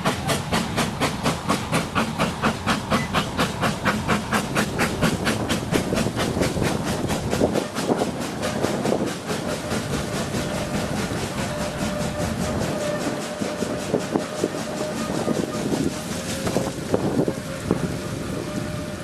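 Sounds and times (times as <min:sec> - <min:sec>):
steam locomotive exhaust chuffing: 0:00.0 - 0:19.0.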